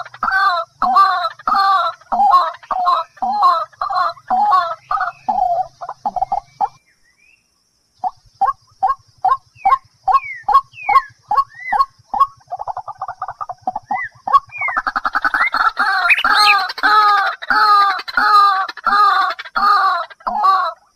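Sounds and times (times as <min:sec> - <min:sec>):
fowl clucking: 0:00.0 - 0:06.8, 0:08.0 - 0:20.9.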